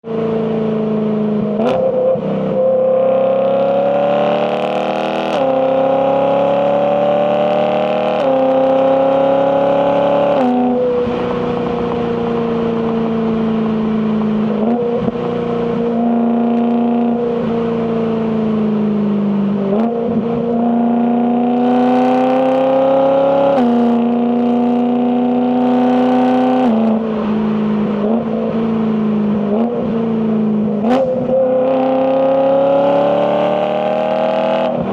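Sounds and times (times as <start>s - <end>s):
car exhaust under acceleration: 0.0s - 34.9s.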